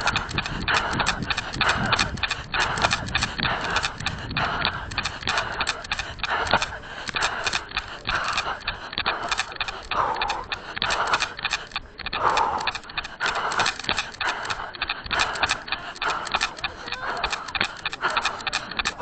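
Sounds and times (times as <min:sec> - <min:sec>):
hard breathing: 0:00.0 - 0:19.0
running footsteps on stone: 0:00.0 - 0:19.0.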